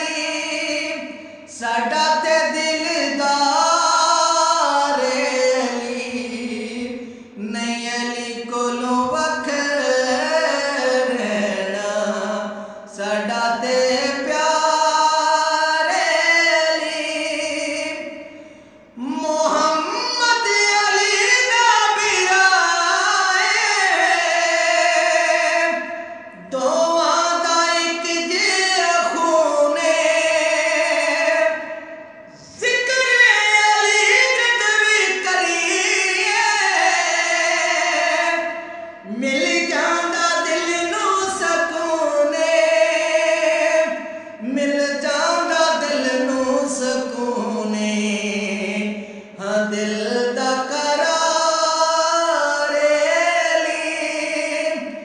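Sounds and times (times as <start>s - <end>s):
man singing a devotional hymn: 0.0s - 55.0s.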